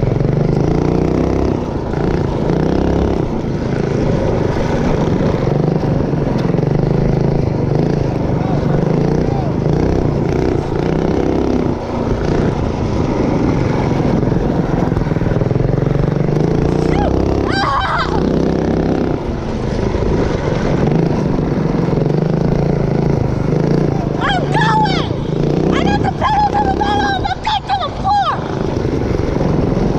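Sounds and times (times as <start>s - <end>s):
mini bike engine revving: 0.0s - 29.9s.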